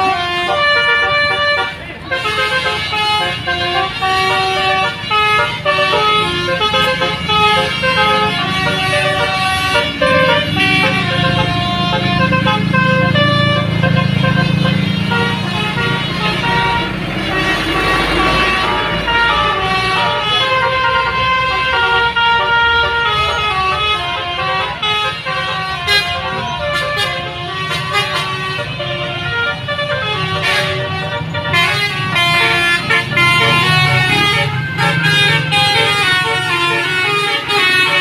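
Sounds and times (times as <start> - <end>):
low bus engine rumble: 0.0 - 38.0
musical bus horn tune: 0.0 - 38.0.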